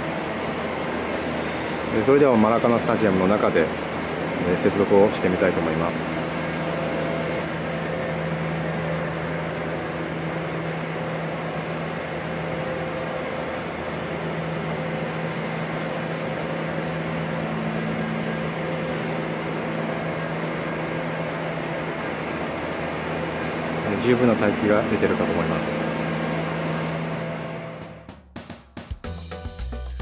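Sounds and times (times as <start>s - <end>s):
machine hum with hiss: 0.0s - 28.0s.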